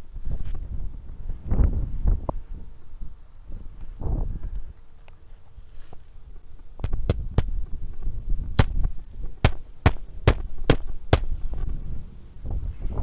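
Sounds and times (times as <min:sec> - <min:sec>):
wind rumble on microphone: 0:00.0 - 0:04.9, 0:05.5 - 0:13.0.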